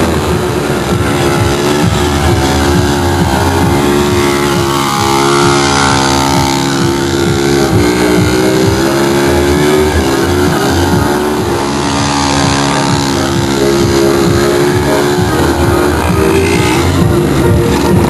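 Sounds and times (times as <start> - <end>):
loud music through car speakers: 0.0 - 18.0.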